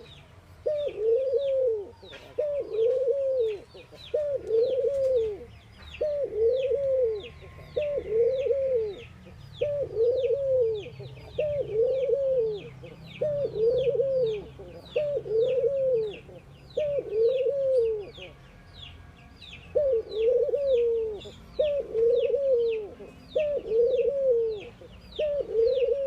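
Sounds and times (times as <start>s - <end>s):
small birds chirping: 0.0s - 26.0s
dove cooing: 0.6s - 18.5s, 19.7s - 26.0s.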